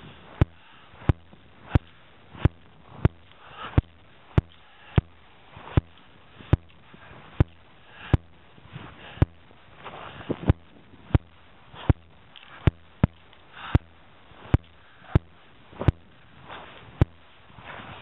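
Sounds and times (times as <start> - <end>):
hard breathing: 0.0 - 18.0.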